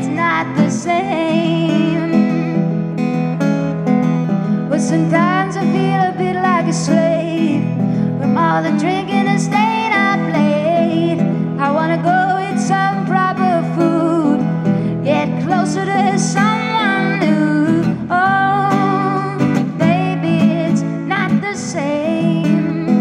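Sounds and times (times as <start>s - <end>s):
woman singing blues: 0.0s - 2.6s, 4.6s - 23.0s
acoustic guitar: 0.0s - 23.0s.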